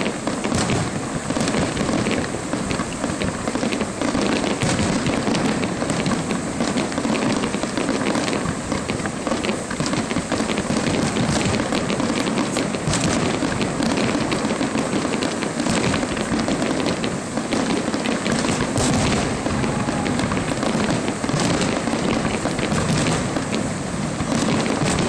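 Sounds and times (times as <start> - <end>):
crackle of sharp pops: 0.0 - 25.0
firework shells bursting: 0.0 - 25.0.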